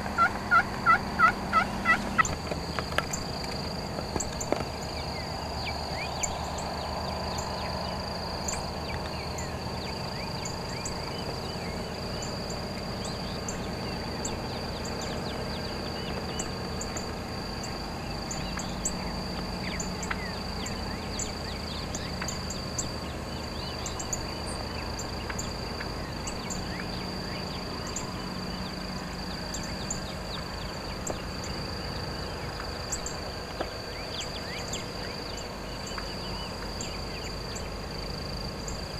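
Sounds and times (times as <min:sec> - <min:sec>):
high insect drone: 0:00.0 - 0:38.9
low steady rumble: 0:00.0 - 0:38.9.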